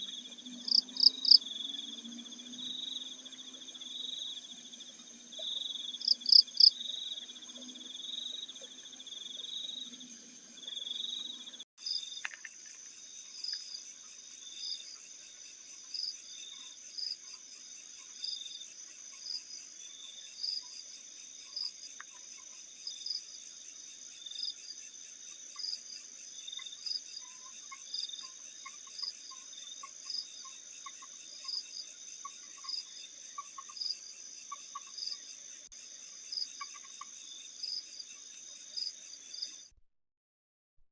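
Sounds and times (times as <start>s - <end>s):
crickets trilling: 0.0s - 39.6s
loud insect chirp: 0.0s - 39.7s.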